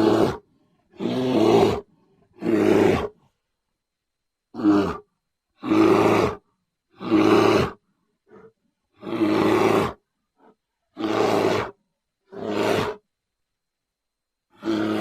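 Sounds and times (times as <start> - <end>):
bear roaring: 0.0 - 3.2, 4.5 - 13.0, 14.5 - 15.0.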